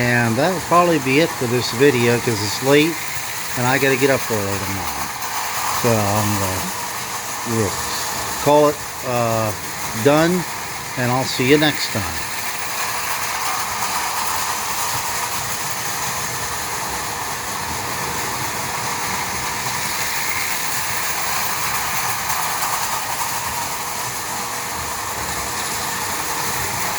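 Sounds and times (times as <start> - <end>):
toy trains running on track: 0.0 - 26.9.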